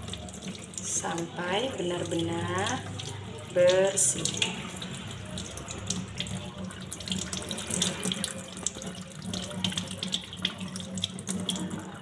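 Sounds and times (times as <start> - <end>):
tap water running into sink: 0.0 - 12.0
water splashes: 0.0 - 12.0.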